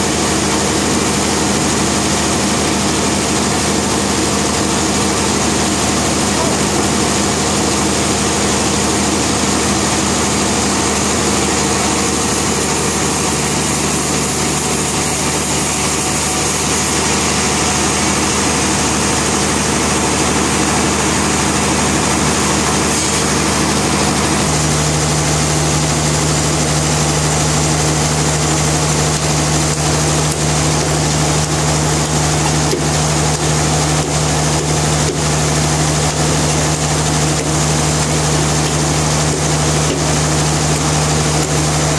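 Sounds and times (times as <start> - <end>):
sawmill machinery hum: 0.0 - 41.9.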